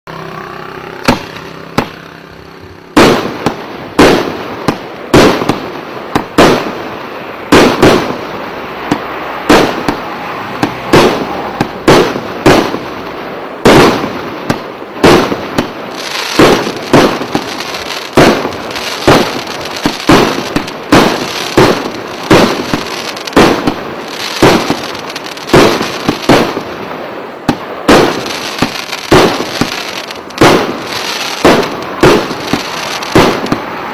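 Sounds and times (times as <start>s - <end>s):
firework bangs: 0.1s - 33.9s
firework hiss: 0.9s - 33.9s.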